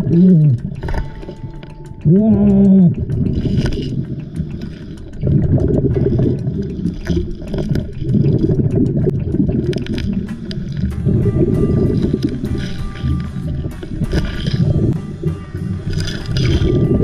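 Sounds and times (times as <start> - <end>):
lures and rocks clicking: 0.0 - 15.0, 15.6 - 17.0
underwater regulator bubbles: 0.0 - 17.0.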